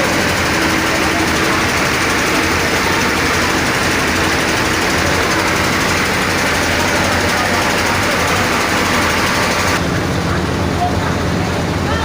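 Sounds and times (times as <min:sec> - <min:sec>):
engine running loudly: 0:00.0 - 0:11.8.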